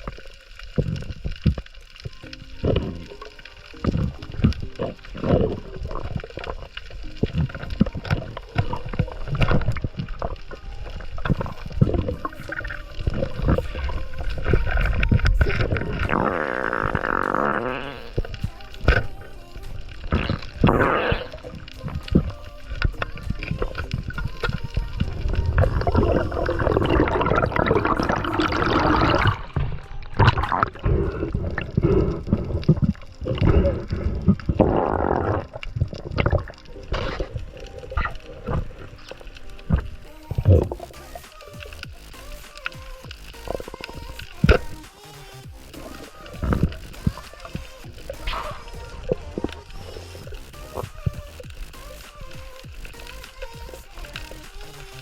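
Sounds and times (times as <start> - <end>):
sea water sloshing and gurgling: 0.0 - 44.8, 45.6 - 55.0.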